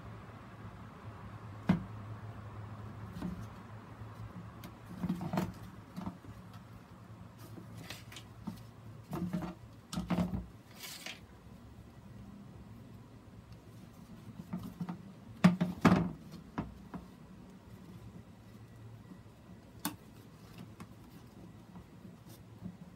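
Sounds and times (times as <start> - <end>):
rustling: 3.0 - 22.9.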